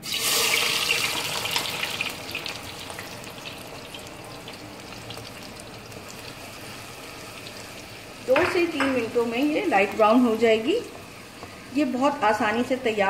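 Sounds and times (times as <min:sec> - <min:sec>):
onions sizzling in hot fat: 0:00.0 - 0:13.0.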